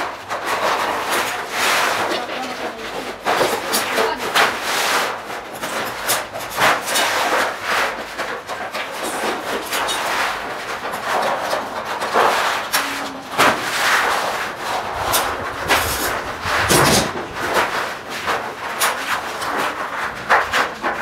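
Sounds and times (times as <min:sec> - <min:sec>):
metal sheet scraping and flexing: 0:00.0 - 0:21.0.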